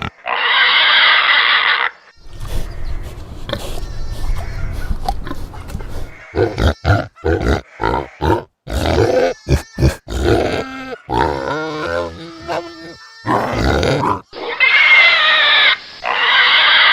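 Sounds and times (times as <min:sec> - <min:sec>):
pigs grunting and squealing: 0:00.0 - 0:16.9.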